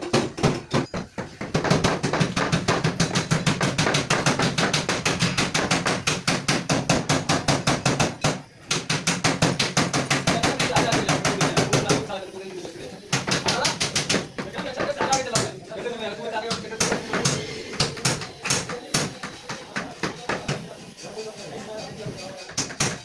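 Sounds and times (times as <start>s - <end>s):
rapid hammer blows: 0.0s - 12.2s, 13.0s - 23.0s.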